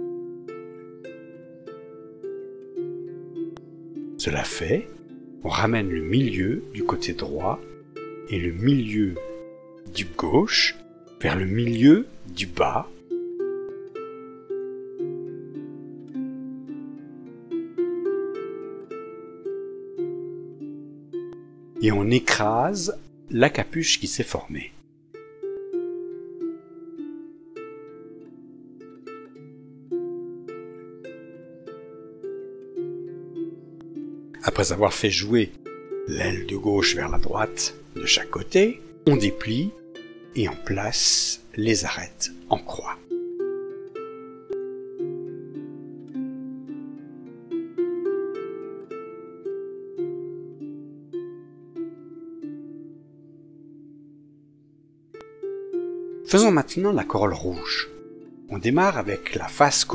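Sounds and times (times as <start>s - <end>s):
plucked string melody: 0.0s - 59.9s.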